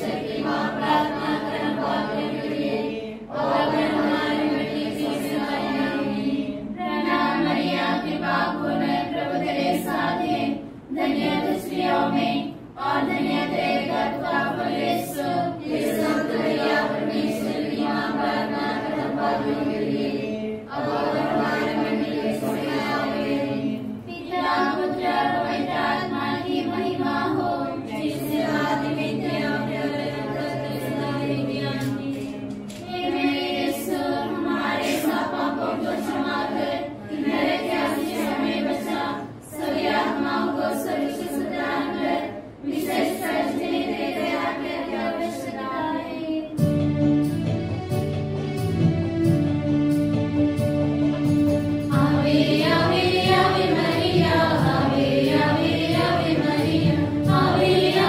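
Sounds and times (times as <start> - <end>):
women singing a hymn: 0.0 - 46.7, 51.9 - 58.0.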